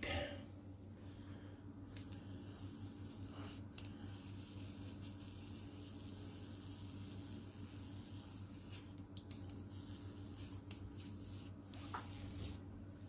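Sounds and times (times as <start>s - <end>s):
airbrush spraying paint: 1.9s - 12.6s.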